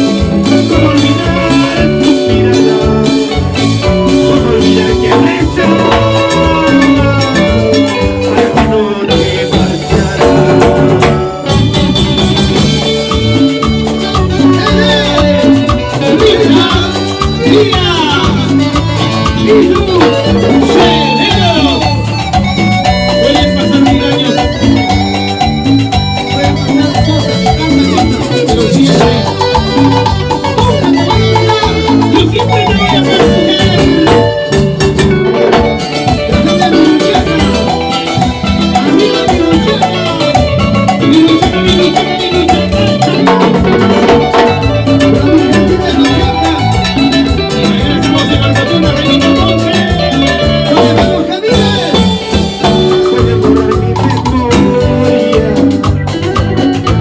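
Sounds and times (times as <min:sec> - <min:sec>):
band playing latin dance music: 0:00.0 - 0:57.0.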